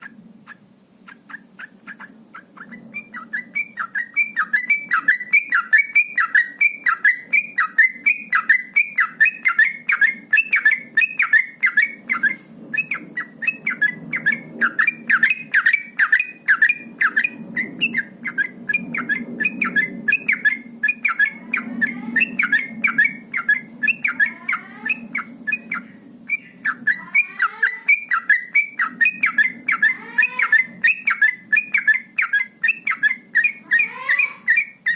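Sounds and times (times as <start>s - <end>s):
low steady hum: 0.0s - 34.9s
bird singing whistled phrases: 2.6s - 34.9s.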